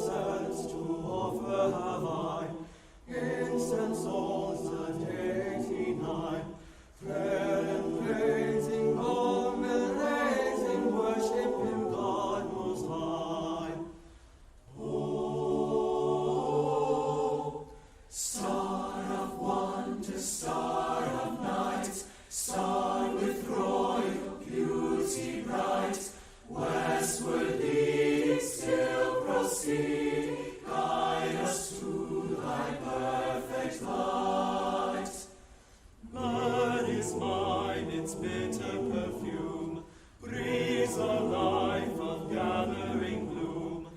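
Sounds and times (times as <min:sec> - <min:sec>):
choir singing in harmony: 0:00.0 - 0:43.9.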